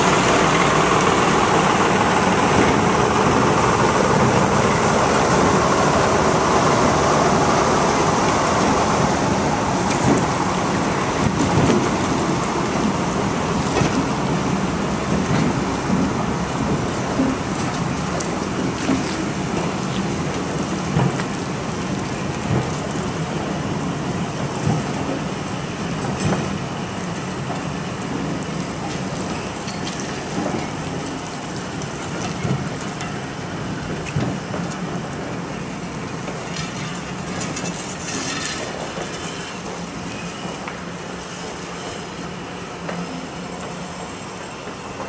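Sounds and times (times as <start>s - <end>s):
train knocks and clanks: 0.0s - 45.0s
train wheels rumbling on rails: 0.0s - 45.0s.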